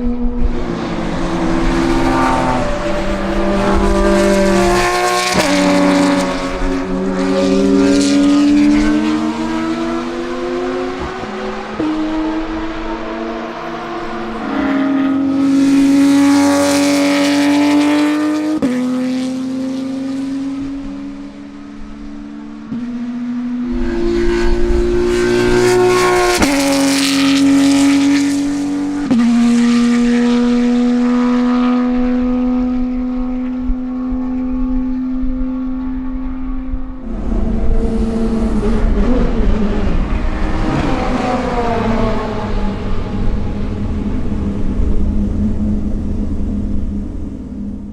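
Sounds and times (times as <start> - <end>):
racing car engine at high revs: 0.0 - 47.9.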